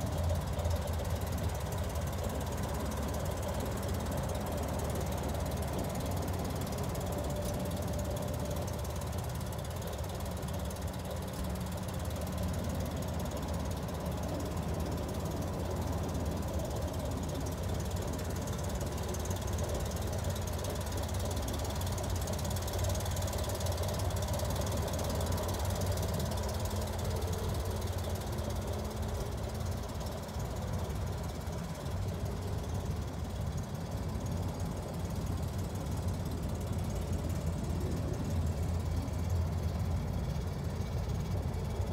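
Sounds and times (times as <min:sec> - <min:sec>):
air-cooled van engine running: 0:00.0 - 0:41.9.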